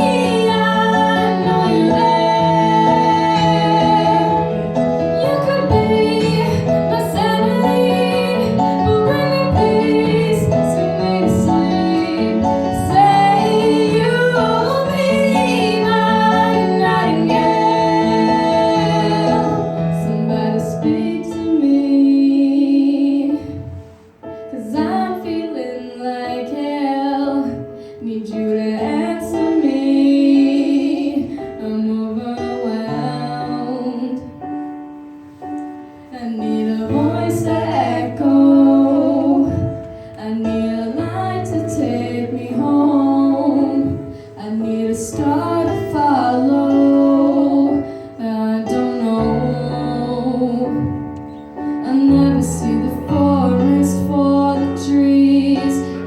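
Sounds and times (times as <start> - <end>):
woman singing ballad: 0.0 - 23.7, 24.5 - 34.4, 36.1 - 56.0.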